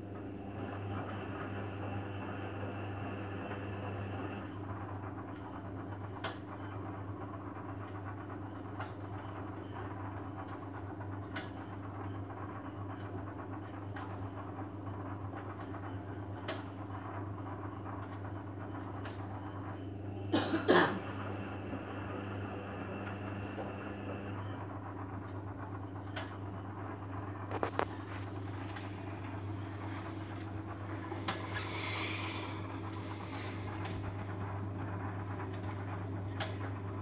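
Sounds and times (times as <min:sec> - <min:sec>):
washing machine motor hum: 0:00.0 - 0:37.0.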